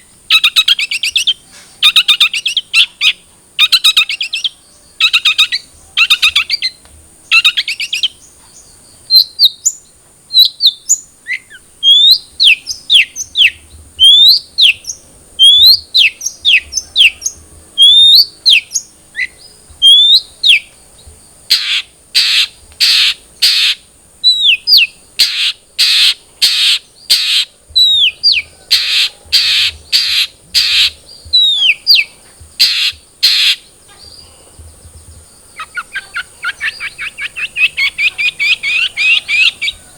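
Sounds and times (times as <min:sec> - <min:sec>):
bird whistling song: 0:00.0 - 0:39.9
harsh rasping bird calls: 0:00.0 - 0:39.9.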